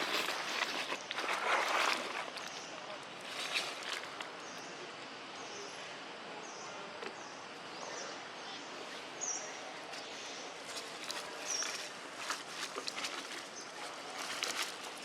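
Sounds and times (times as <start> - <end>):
outdoor background hiss: 0.0 - 15.0
bird chirping: 2.4 - 14.6.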